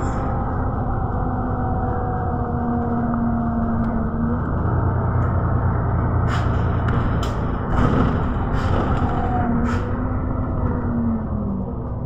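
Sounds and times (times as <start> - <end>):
low hum: 0.0 - 12.0
vehicle interior rumble: 0.0 - 12.0.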